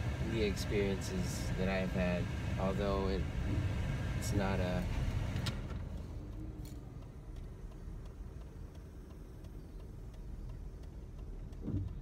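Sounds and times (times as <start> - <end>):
road and engine rumble: 0.0 - 12.0
turn signal ticking: 0.0 - 12.0.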